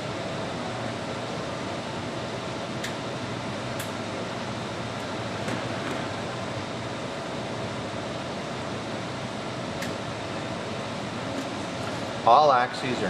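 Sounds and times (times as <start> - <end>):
machine fan hum: 0.0 - 13.0.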